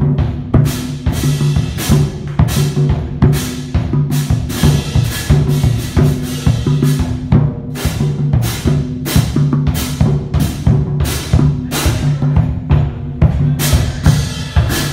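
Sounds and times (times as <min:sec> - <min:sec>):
marching bass drums: 0:00.0 - 0:14.9.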